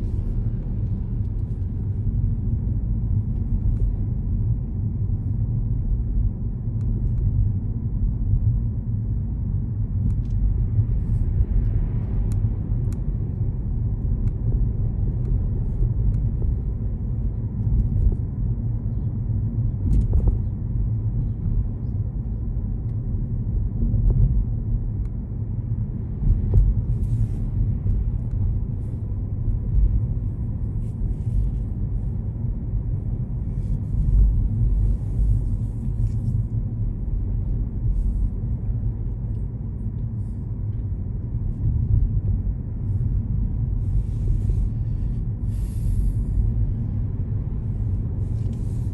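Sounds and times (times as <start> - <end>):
car road and engine noise: 0.0 - 48.9.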